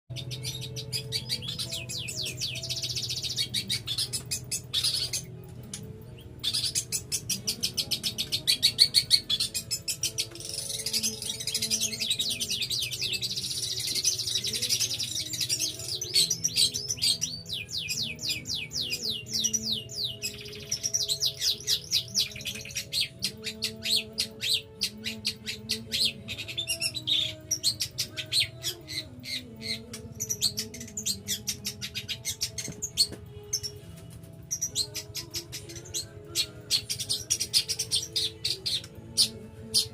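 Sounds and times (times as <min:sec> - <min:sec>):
shrike singing rapid chattering: 0:00.1 - 0:33.8, 0:34.4 - 0:39.9.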